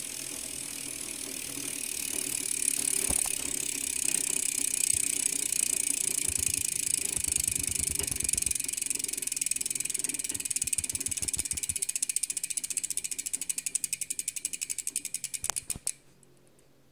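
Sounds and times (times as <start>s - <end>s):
bicycle hub freewheel ticking: 0.0s - 16.0s.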